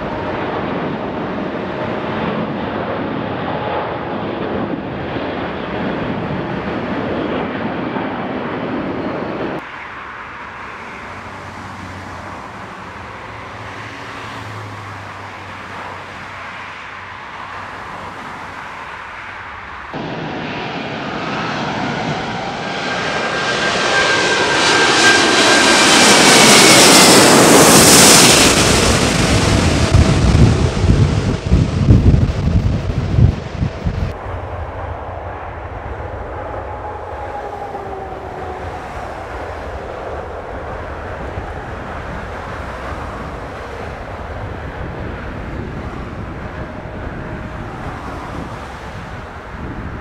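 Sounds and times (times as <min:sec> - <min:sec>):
jet engine whine: 0:00.0 - 0:50.0
jet engines roaring: 0:00.0 - 0:50.0.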